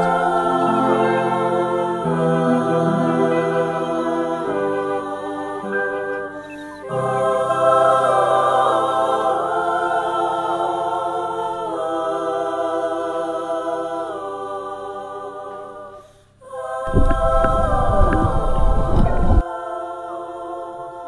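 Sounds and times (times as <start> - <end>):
song with long held sung notes: 0.0 - 21.0.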